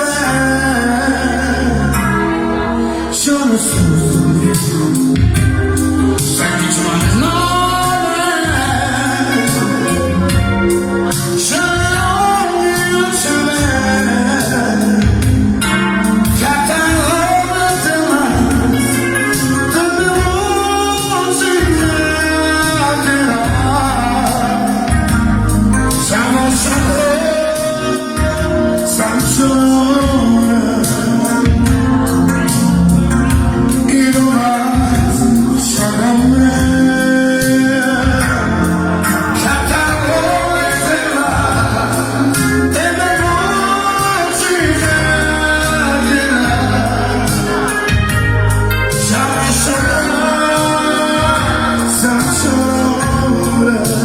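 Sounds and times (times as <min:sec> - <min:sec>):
bass: 0:00.0 - 0:54.0
electric band backing: 0:00.0 - 0:54.0
guitar: 0:00.0 - 0:54.0
person singing: 0:00.0 - 0:54.0.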